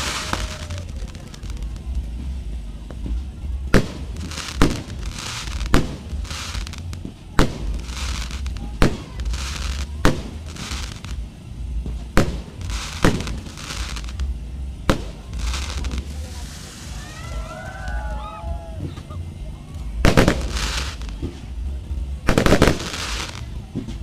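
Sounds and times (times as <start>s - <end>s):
hissing crackle of bursts: 0.0s - 18.1s, 20.0s - 24.0s
fireworks bangs: 0.0s - 24.0s.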